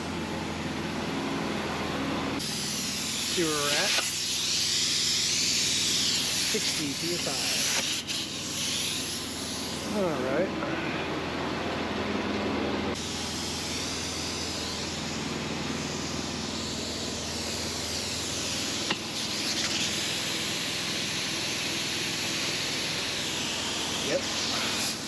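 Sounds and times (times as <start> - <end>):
compressed air hissing into tire: 2.4 - 10.9, 12.9 - 25.0.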